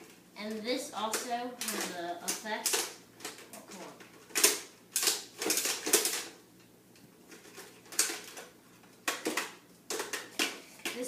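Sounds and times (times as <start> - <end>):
plastic toy parts clattering: 1.1 - 6.4, 7.3 - 11.0.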